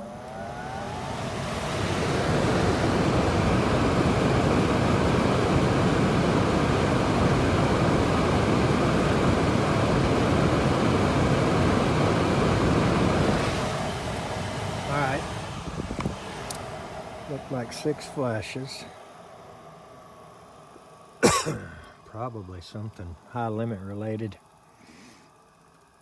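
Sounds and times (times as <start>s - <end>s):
furnace blower fan rushing air: 0.0s - 26.0s.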